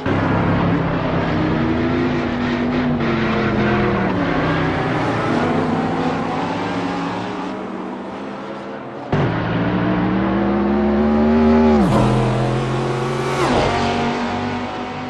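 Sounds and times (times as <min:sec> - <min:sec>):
car engine running: 0:00.0 - 0:08.3, 0:09.0 - 0:15.0.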